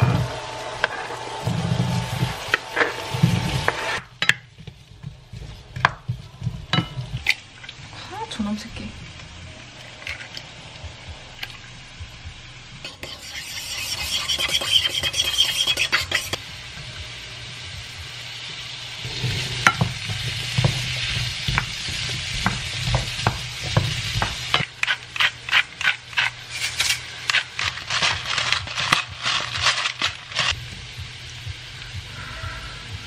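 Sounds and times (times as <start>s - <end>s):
potatoes sizzling in frying pan: 0.0s - 33.0s.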